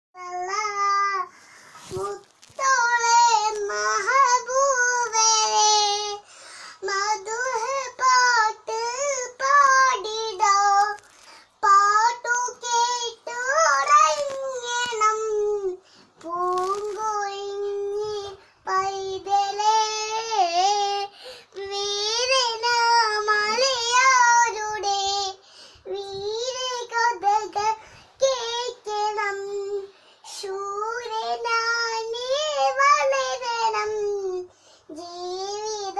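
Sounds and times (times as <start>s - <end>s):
child singing a lullaby: 0.2s - 35.9s.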